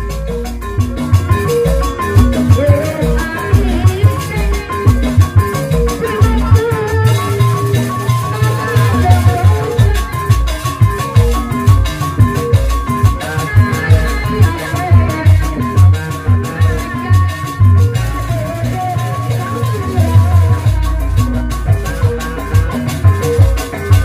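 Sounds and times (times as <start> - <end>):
hand drums playing quick strokes: 0.0 - 24.0.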